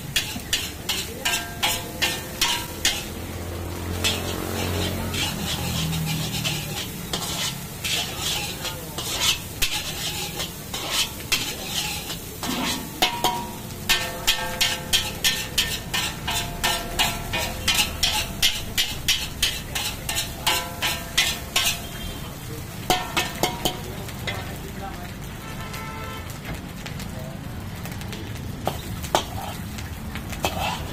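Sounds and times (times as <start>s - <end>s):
spatula scraping and clanking on wok: 0.0s - 24.6s, 28.6s - 30.9s
rice sizzling: 0.0s - 30.9s.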